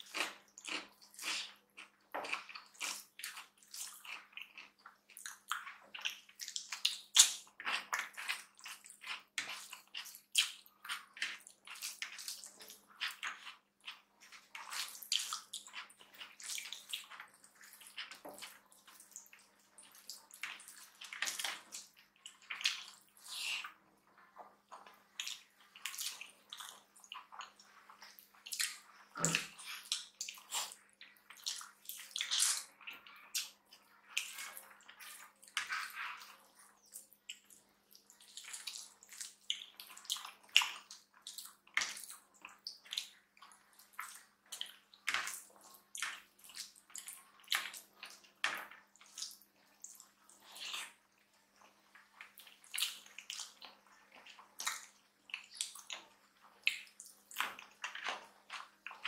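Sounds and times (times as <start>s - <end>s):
chewing and lip smacks: 0.0s - 59.0s.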